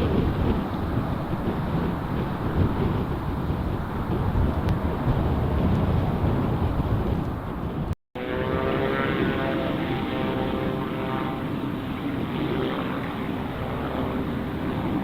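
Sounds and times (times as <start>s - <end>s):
propeller aircraft engine drone: 0.0s - 15.0s
wind noise on microphone: 0.0s - 15.0s.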